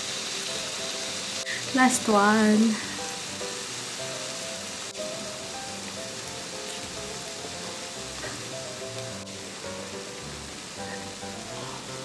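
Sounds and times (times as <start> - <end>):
meat sizzling on a grill: 0.0 - 12.0
soft background music: 0.0 - 12.0.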